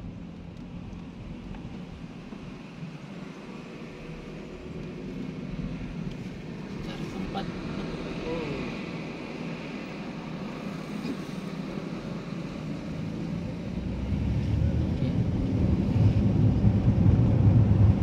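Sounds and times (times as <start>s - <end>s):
car engine: 0.0s - 18.0s
road rumble: 0.0s - 18.0s.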